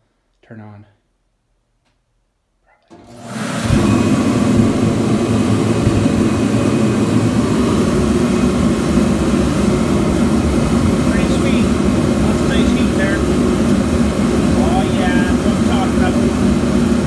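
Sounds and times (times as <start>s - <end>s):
heater fan and burner rushing: 2.9s - 17.0s.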